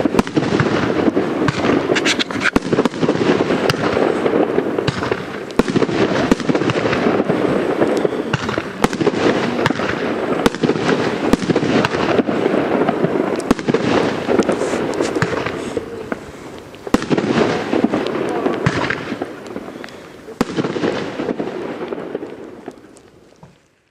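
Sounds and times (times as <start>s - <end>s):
fireworks launching and bursting: 0.0s - 23.9s.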